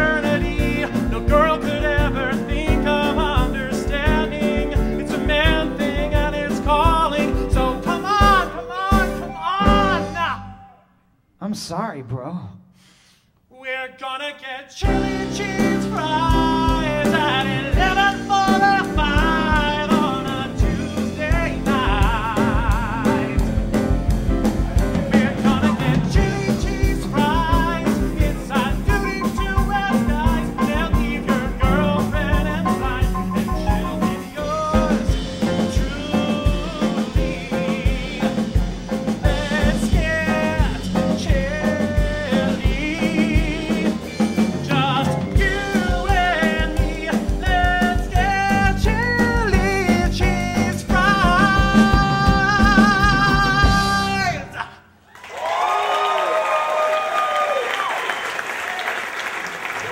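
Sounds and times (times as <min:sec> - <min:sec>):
live band playing upbeat tune: 0:00.0 - 0:10.4, 0:14.8 - 0:54.4
drum kit beat: 0:00.0 - 0:10.5, 0:14.8 - 0:54.6
person singing: 0:00.0 - 0:10.9, 0:13.5 - 0:23.9, 0:24.7 - 0:54.9.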